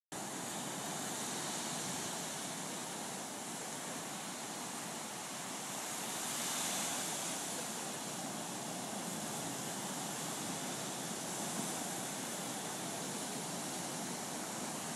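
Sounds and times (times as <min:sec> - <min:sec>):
ocean surf on beach: 0:00.2 - 0:14.9.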